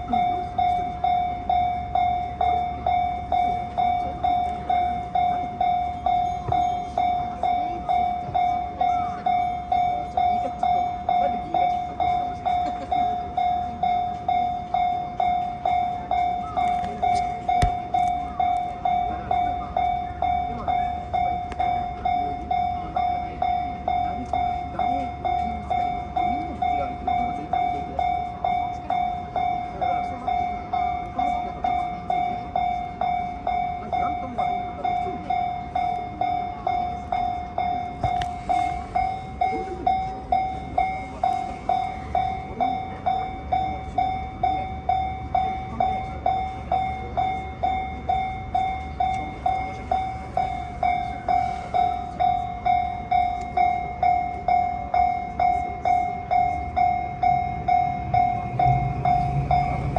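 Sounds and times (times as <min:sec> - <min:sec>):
level crossing warning bell: 0:00.0 - 0:59.9.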